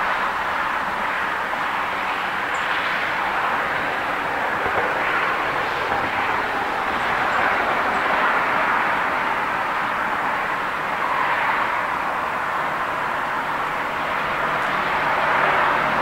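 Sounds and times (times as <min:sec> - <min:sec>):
road traffic tyre noise: 0:00.0 - 0:16.0.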